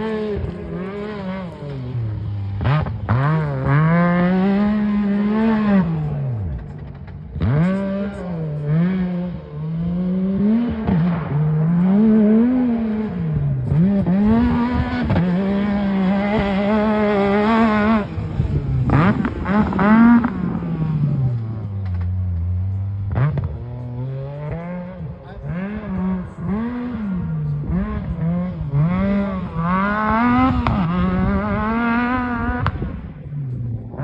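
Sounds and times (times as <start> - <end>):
engine revving hard: 0.0 - 6.6, 7.4 - 33.2.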